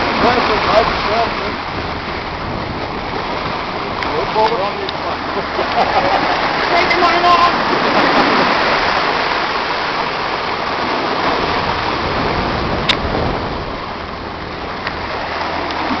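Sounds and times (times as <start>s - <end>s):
sea water rushing: 0.0s - 16.0s
wind: 0.0s - 16.0s.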